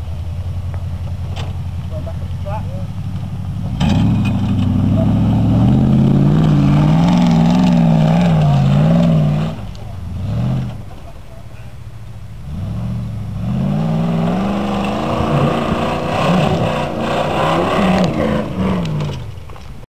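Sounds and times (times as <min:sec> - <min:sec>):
off-road engine revving: 0:00.0 - 0:19.6.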